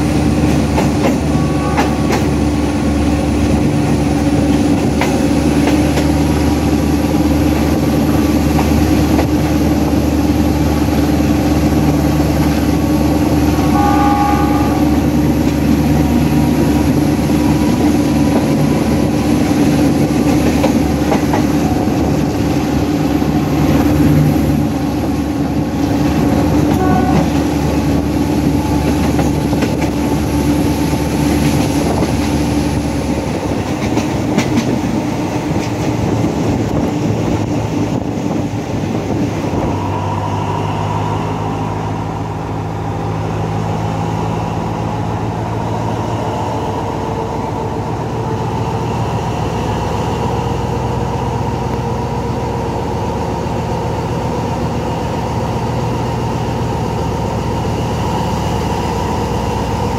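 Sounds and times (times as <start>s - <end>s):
diesel locomotive engine drone: 0.0s - 59.9s
train wheels on rails: 0.0s - 59.9s.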